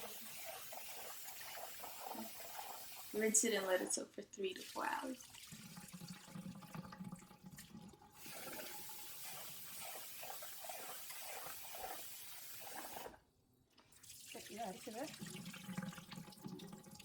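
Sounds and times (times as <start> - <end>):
rice being rinsed: 0.0 - 13.2, 13.8 - 17.0
tap water running: 0.0 - 17.0.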